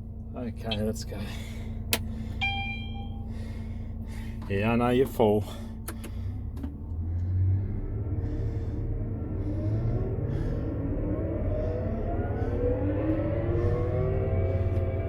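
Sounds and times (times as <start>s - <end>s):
combine harvester engine under load: 0.0s - 15.0s.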